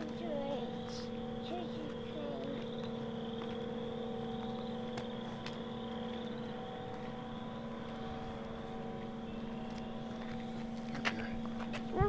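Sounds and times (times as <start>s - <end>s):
faint wavering whine: 0.0s - 12.0s
machine hum: 0.0s - 12.0s.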